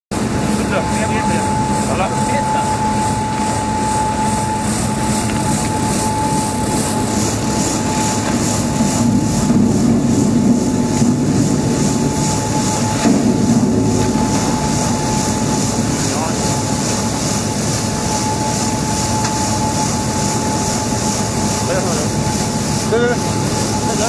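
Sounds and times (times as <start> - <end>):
washing machine rumble and whine: 0.1 - 24.0.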